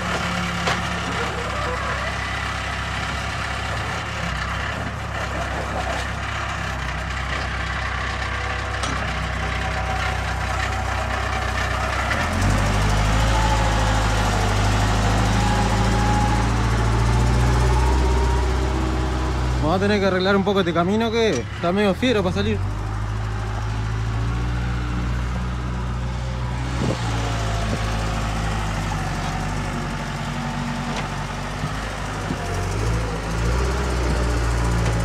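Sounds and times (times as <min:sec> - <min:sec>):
backhoe diesel engine working: 0:00.0 - 0:35.0
truck diesel engine idling: 0:00.0 - 0:35.0.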